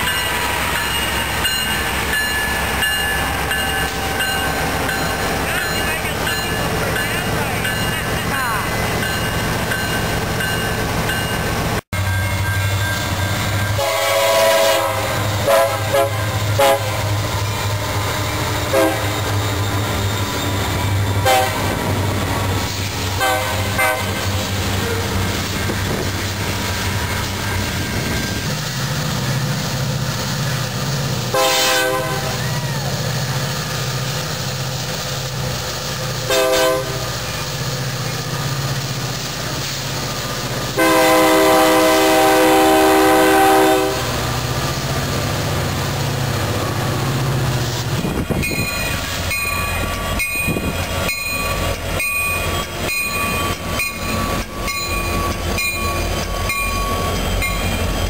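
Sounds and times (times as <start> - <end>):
diesel locomotive drone: 0.0 - 58.0
train wheels rumbling on rail: 0.0 - 58.0.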